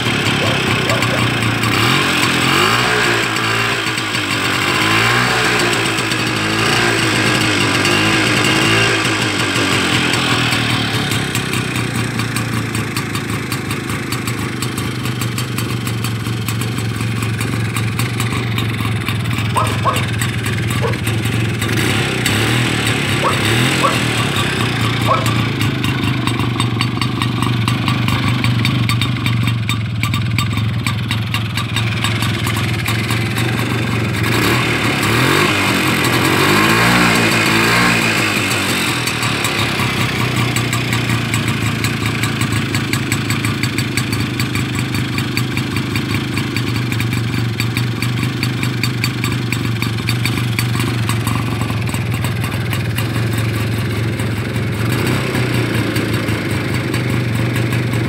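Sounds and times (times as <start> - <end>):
motor scooter engine idling: 0.0 - 58.0.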